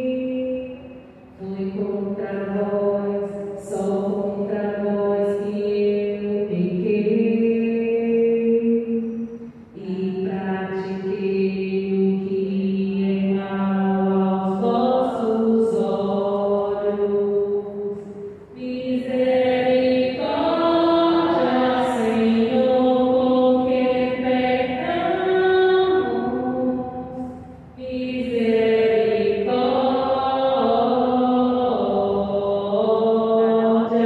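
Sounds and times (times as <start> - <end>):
woman singing into a microphone: 0.0 - 34.0.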